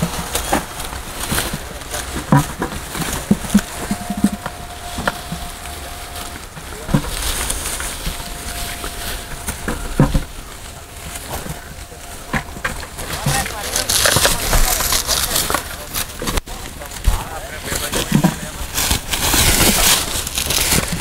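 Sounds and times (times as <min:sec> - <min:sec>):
garlic bulbs knocking and clattering: 0:00.0 - 0:21.0.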